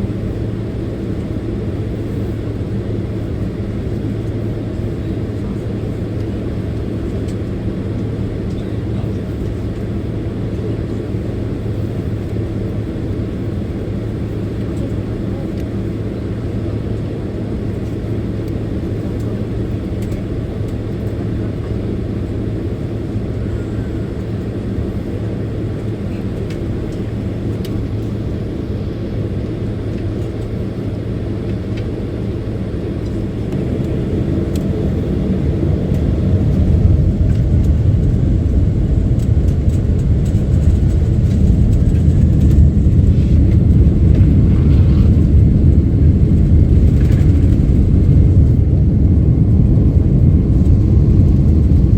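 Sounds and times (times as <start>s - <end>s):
jet engine rumble in cabin: 0.0s - 51.9s.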